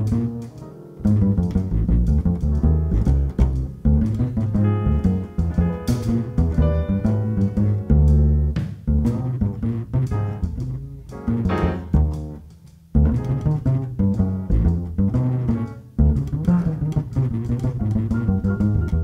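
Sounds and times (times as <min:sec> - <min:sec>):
double bass plucked notes: 0:00.0 - 0:19.0.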